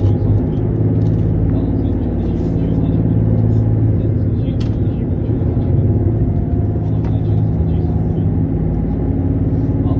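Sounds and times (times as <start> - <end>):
diesel railcar engine droning: 0.0 - 9.9.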